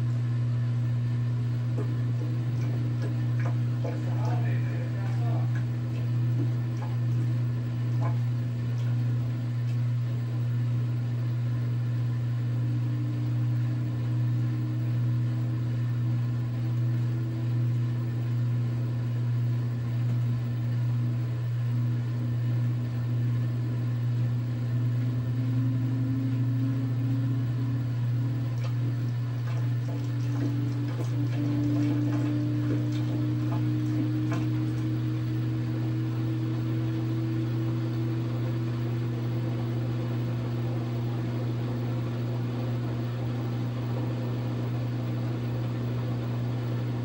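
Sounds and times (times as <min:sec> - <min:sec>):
washing machine drum spinning: 0:00.0 - 0:47.0.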